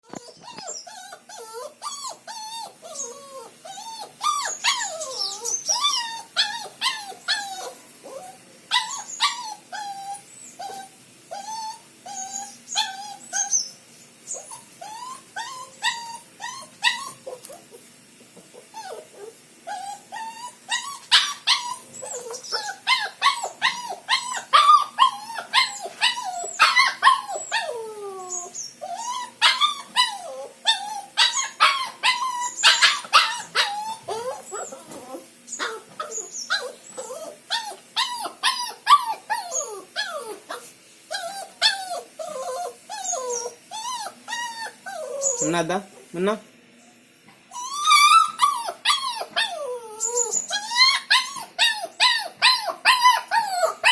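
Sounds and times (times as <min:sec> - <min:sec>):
dog yipping: 0:00.0 - 0:13.7, 0:14.3 - 0:17.6, 0:18.6 - 0:45.5, 0:47.5 - 0:53.9
dog whining and whimpering: 0:00.0 - 0:17.8, 0:18.5 - 0:45.6, 0:47.5 - 0:53.9.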